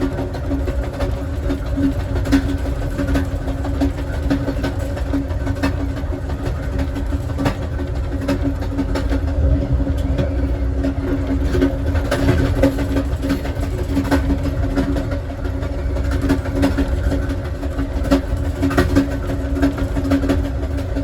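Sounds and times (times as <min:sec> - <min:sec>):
clicks and knocks from wheels: 0:00.0 - 0:21.0
train car rumbling on track: 0:00.0 - 0:21.0.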